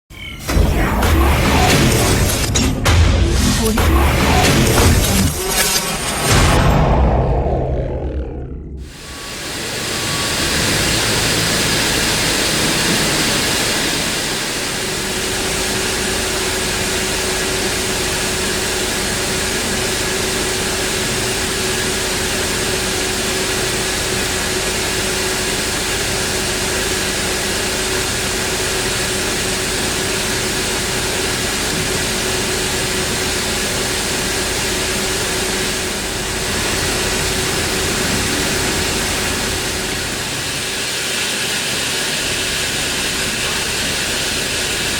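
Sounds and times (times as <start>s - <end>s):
machining center hissing and whining: 0.1s - 44.9s.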